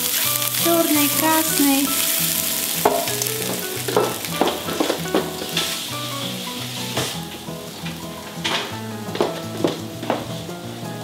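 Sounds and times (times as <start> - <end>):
background music: 0.0 - 11.0
vegetables sizzling in a pan: 0.0 - 11.0.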